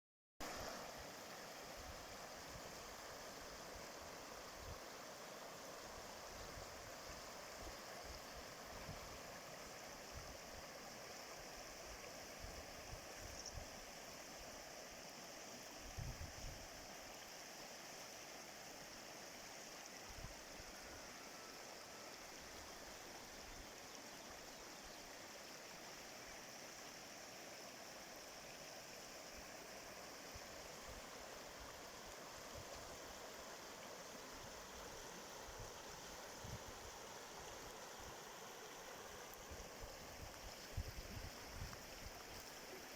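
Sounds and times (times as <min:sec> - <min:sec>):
flowing stream: 0:00.4 - 0:42.9.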